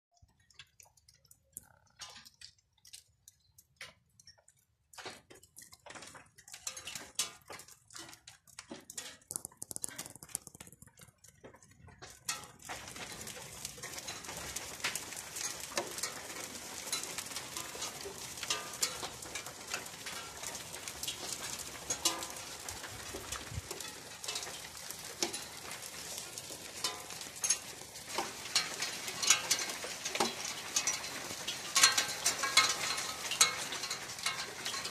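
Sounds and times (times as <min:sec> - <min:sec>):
rain on stone and tiles: 0:00.2 - 0:34.9.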